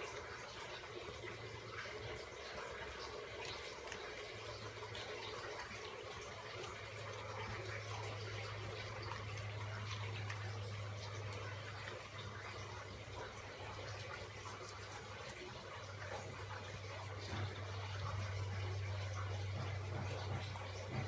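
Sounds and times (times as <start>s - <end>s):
dog chewing wetly: 0.0s - 21.0s.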